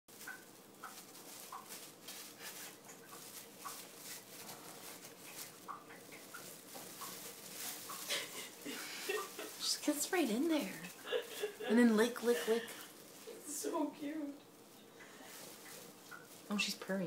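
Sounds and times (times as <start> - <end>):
plastic bag crinkling: 0.1 - 17.0.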